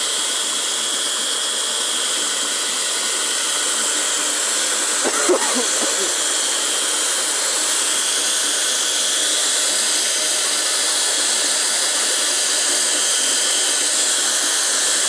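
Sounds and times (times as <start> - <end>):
power tool whirring: 0.4 - 15.0.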